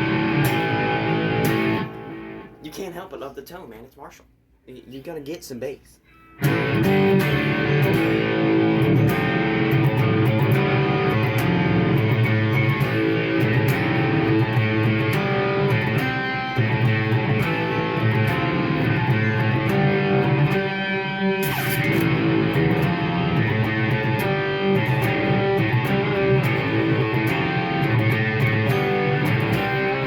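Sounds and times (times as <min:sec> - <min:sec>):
electric guitar riffs: 0:00.0 - 0:02.7, 0:06.1 - 0:30.0.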